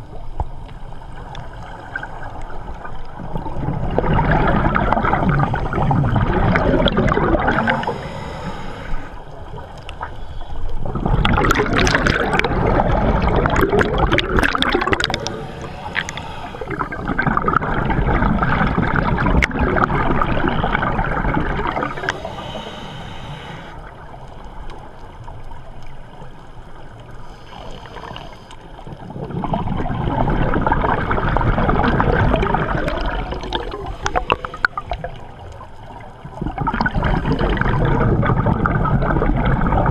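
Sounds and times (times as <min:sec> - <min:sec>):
underwater exhaust bubbles gurgling: 0:00.0 - 0:39.9.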